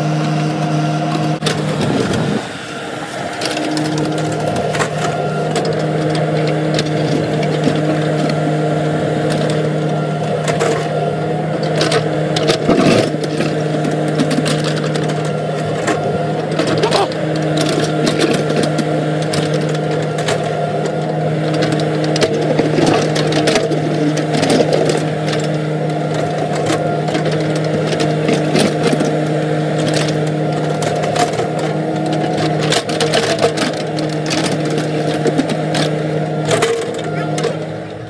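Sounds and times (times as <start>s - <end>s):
bucket scraping dirt and rock: 0.0s - 37.8s
excavator diesel engine running: 0.0s - 38.0s.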